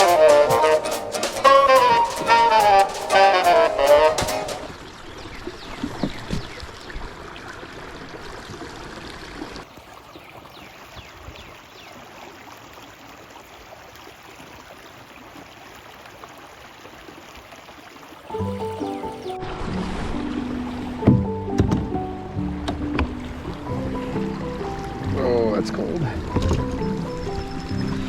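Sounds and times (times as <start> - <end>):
creek water trickling: 0.0 - 28.0.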